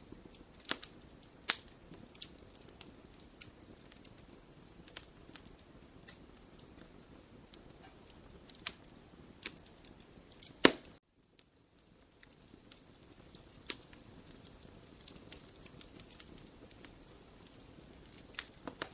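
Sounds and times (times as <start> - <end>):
faint hiss: 0.0 - 18.9
fire popping: 0.0 - 18.9
wood fire crackling: 0.0 - 18.9.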